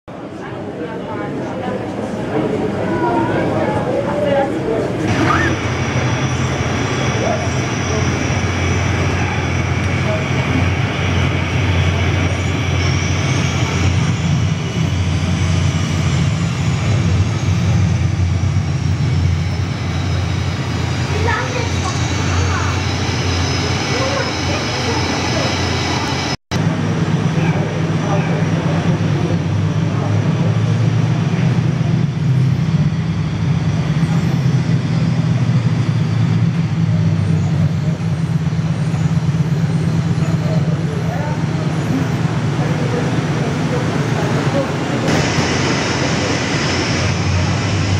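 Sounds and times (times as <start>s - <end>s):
jet engine rumble and whine: 0.1s - 47.9s.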